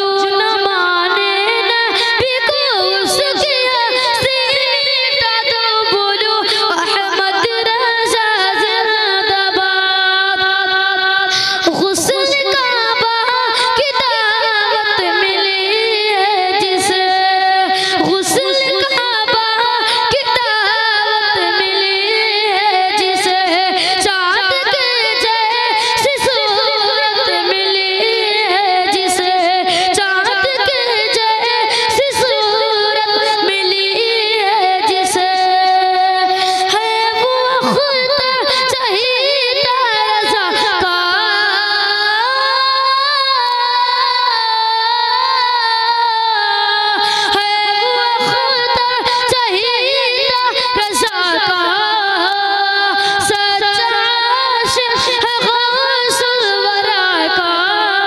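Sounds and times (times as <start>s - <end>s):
boy singing unaccompanied: 0.0s - 58.0s.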